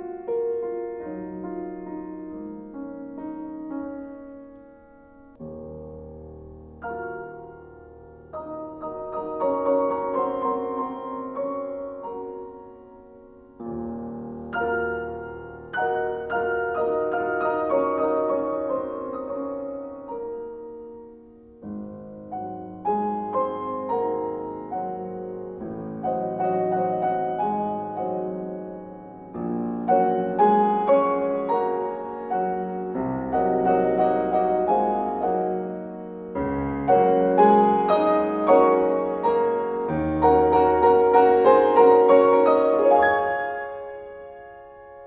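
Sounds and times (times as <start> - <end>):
gentle piano music: 0.0 - 45.0.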